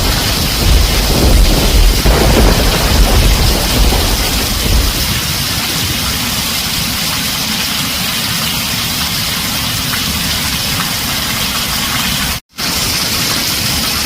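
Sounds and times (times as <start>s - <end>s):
heavy rain on a tin roof: 0.0s - 14.0s.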